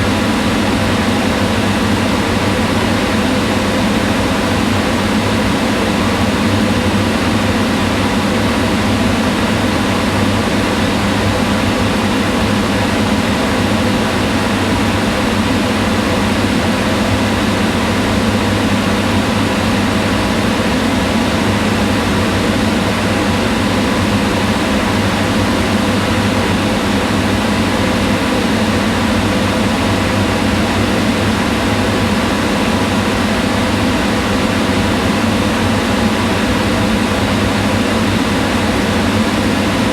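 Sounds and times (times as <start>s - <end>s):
range hood fan whirring: 0.0s - 39.9s.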